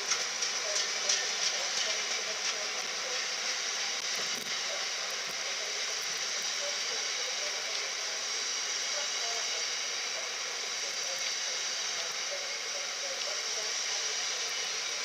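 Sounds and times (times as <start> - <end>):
steel wheels rushing on rail: 0.0 - 12.3.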